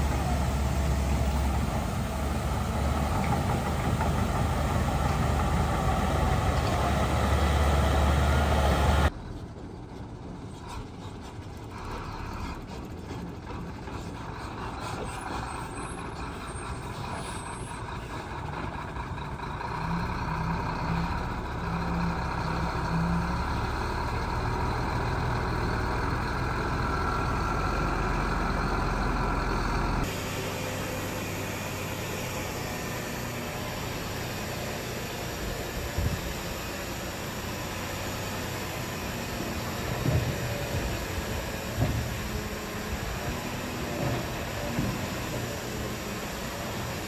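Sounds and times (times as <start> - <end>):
diesel machinery engine drone: 0.0 - 47.0.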